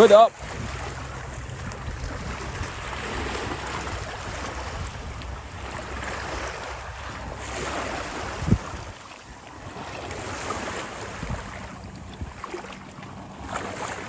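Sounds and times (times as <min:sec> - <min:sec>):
small waves washing on pebbles: 0:00.0 - 0:14.0
wind buffeting microphone: 0:00.3 - 0:12.6.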